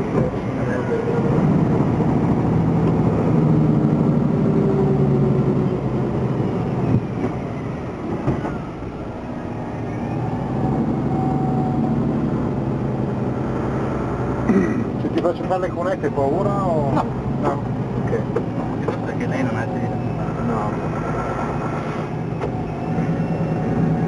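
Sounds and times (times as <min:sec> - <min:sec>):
diesel truck engine under load: 0:00.0 - 0:24.0.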